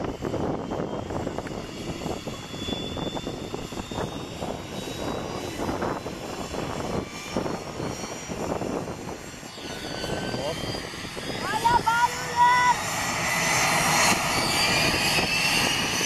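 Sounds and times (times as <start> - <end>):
aircraft steady rumble: 0.0 - 16.0
faint high whine: 0.4 - 16.0.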